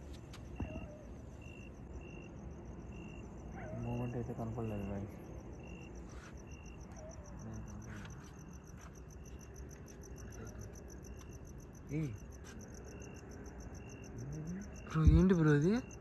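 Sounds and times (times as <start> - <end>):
crickets chirping chorus: 0.0 - 16.0.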